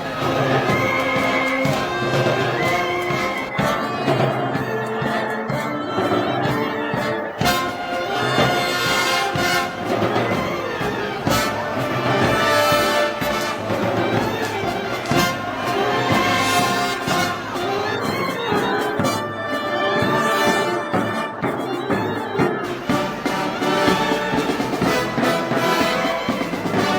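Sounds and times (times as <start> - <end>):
brass band playing slow music: 0.0 - 26.9
heavy percussion strokes: 0.0 - 26.9.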